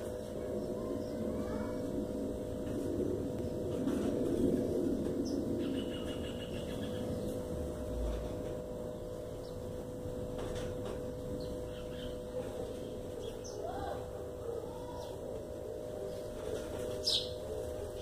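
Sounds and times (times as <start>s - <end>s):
low noisy background: 0.0s - 18.0s
steady hum: 0.0s - 18.0s.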